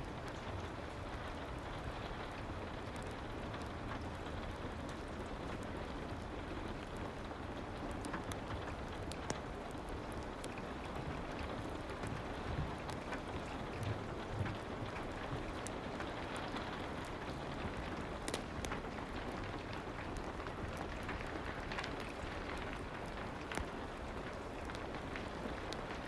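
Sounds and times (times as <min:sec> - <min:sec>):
fireplace crackling and popping: 0:00.0 - 0:26.0.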